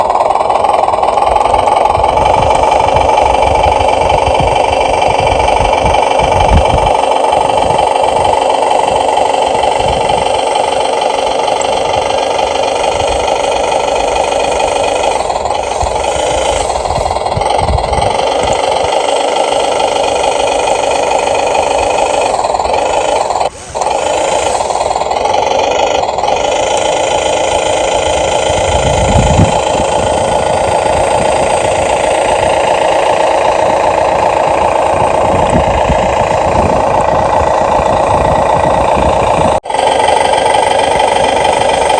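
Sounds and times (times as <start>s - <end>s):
motors whining: 0.0s - 41.9s
toy excavator mechanical buzz: 0.0s - 41.9s.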